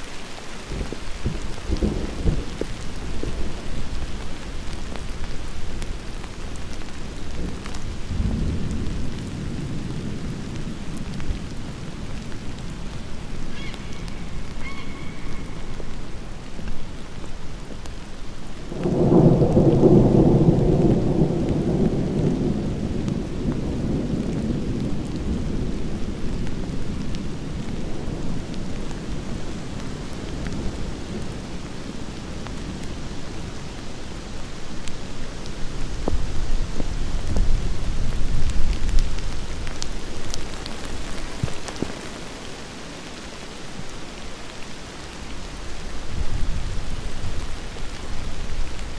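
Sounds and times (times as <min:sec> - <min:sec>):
steady rain: 0:00.0 - 0:48.9
thunder rumbling: 0:00.3 - 0:42.3.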